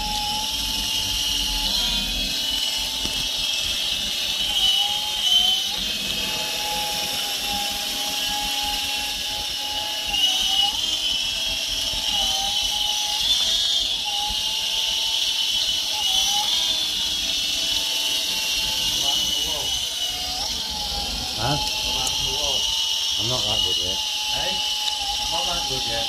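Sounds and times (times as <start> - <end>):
rc helicopter rotors whining: 0.0 - 26.0.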